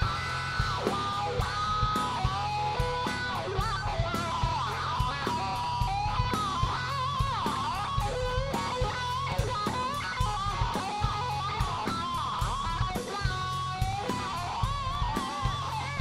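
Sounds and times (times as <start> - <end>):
bass and drums: 0.0 - 16.0
electric guitar lead: 0.0 - 16.0.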